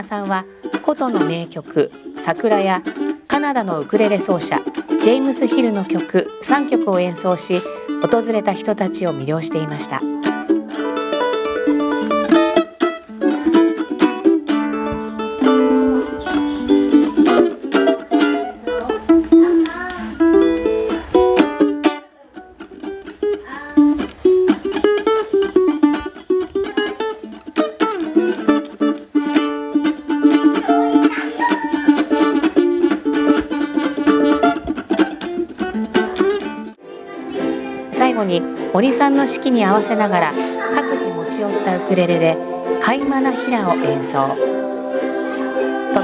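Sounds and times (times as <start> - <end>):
ukulele played fingerstyle: 0.0 - 46.0.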